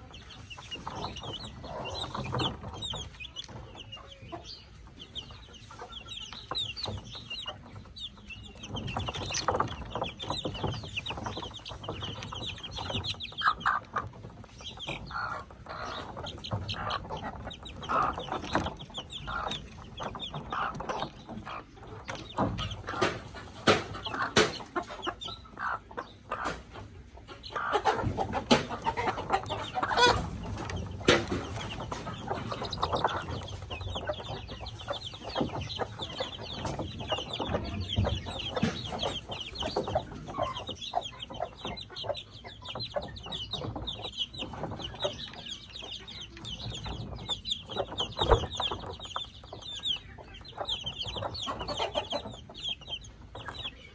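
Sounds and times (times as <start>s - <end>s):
chicks peeping: 0.0s - 53.9s
hen clucking: 0.0s - 53.9s.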